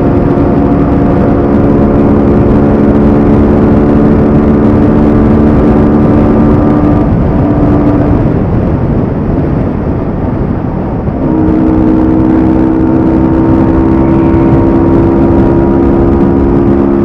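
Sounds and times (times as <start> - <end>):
motorcycle engine running: 0.0 - 17.0
rushing noise: 0.0 - 17.0.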